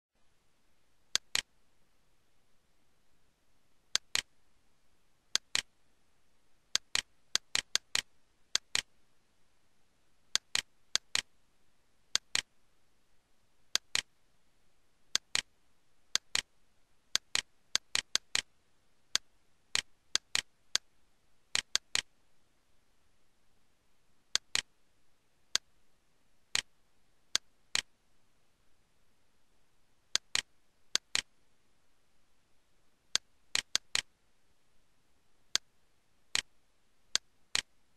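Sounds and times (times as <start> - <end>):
faint steady hiss: 0.2 - 37.9.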